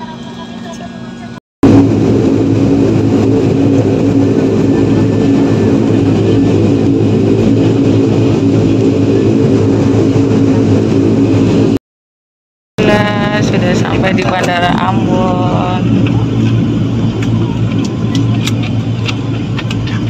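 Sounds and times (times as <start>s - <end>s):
propeller hum: 0.0s - 11.8s, 12.8s - 20.0s
turboprop engine drone in cabin: 0.0s - 11.8s, 12.8s - 20.0s.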